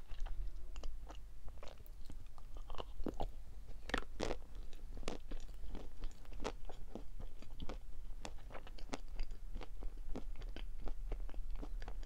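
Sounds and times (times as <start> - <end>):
person chewing sweet: 0.0 - 12.0.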